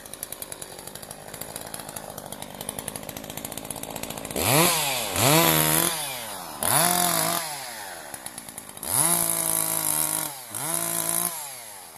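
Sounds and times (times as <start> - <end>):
chainsaw revving: 0.0 - 11.9.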